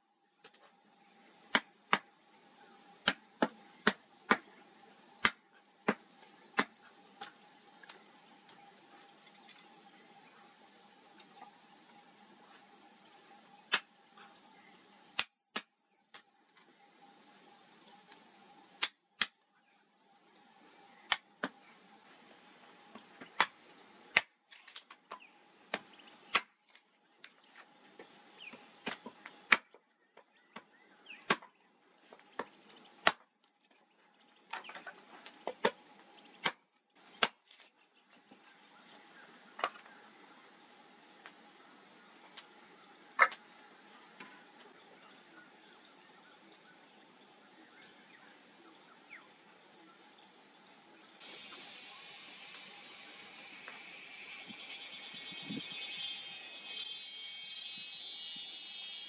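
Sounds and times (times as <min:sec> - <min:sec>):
high insect buzz: 0:00.0 - 0:59.0.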